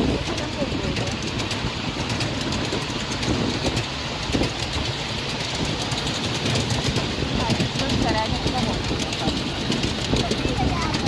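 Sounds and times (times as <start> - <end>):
rapid rattle of track clicks: 0.0 - 11.0
train rumble: 0.0 - 11.0.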